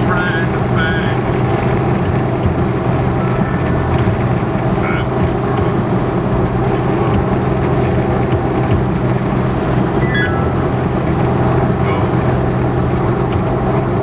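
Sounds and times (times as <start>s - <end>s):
engine drone: 0.0s - 14.0s
road noise inside vehicle: 0.0s - 14.0s.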